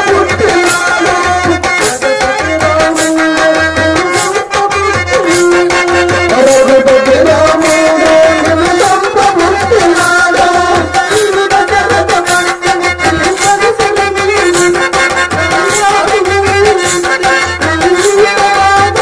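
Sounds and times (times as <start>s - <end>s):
harmonium melody: 0.0s - 19.0s
tabla beat: 0.0s - 19.0s.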